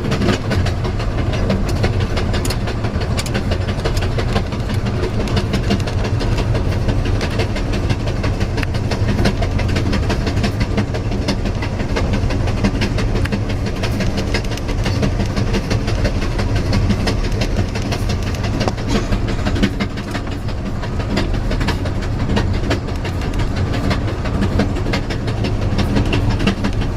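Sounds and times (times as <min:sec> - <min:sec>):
low train rumble: 0:00.0 - 0:26.9
train wheels clickety-clack: 0:00.0 - 0:26.9.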